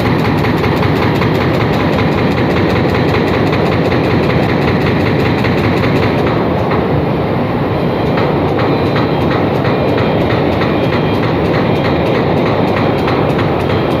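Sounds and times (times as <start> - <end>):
regular machine clatter: 0.0 - 6.9, 8.0 - 14.0
loud machinery noise: 0.0 - 14.0.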